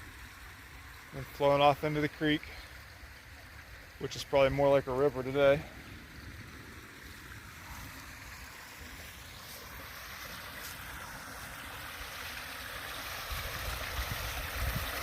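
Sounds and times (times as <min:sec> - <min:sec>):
water rushing from drain pipe: 0:00.0 - 0:15.0.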